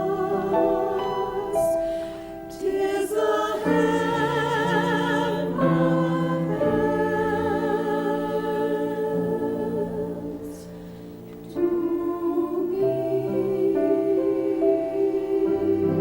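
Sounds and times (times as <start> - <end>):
choir singing slowly: 0.0 - 16.0.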